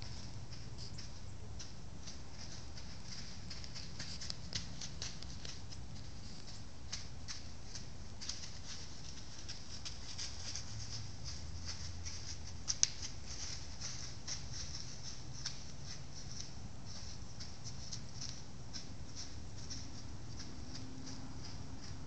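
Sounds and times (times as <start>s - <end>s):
crackling and rustling: 0.0s - 22.0s.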